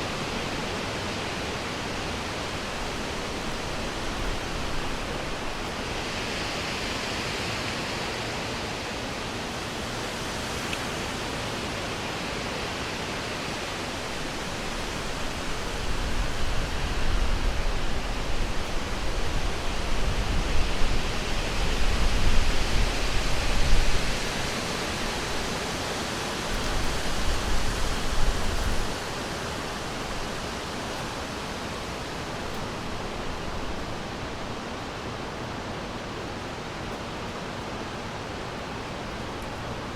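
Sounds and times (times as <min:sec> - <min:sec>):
wind through forest trees: 0:00.0 - 0:39.9.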